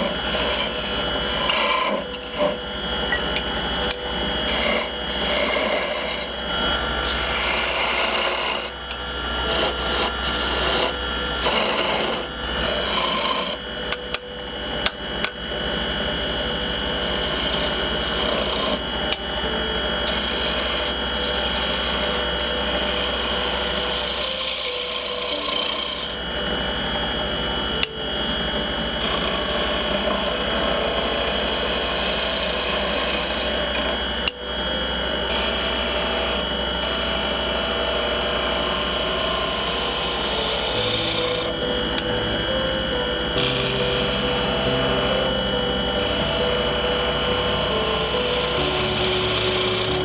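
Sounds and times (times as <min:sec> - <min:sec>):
tool scraping spinning wood: 0:00.0 - 0:50.0
wood lathe motor hum: 0:00.0 - 0:50.0.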